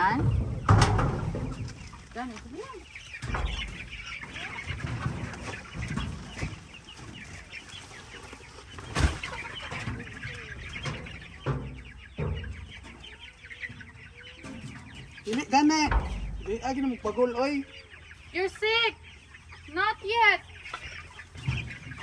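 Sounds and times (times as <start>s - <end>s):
chickens clucking: 0.0s - 22.0s
chicks peeping: 0.0s - 22.0s.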